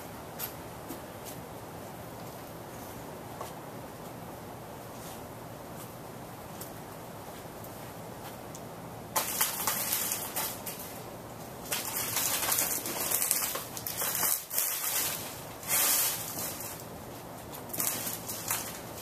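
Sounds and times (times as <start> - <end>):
ceiling fan humming: 0.0 - 19.0
rushing air from fan blades: 0.0 - 19.0.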